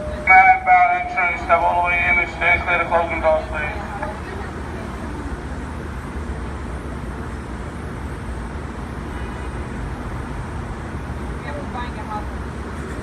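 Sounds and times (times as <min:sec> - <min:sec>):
subway car rumble: 0:00.0 - 0:13.0.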